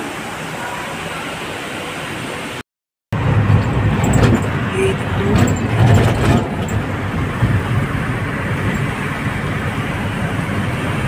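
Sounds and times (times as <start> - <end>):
vehicle engine and road rumble: 0.1 - 11.0.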